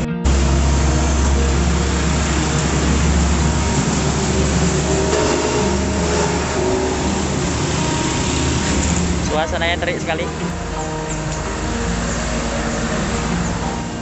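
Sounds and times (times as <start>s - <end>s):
trucks and motorbikes passing: 0.0s - 14.0s.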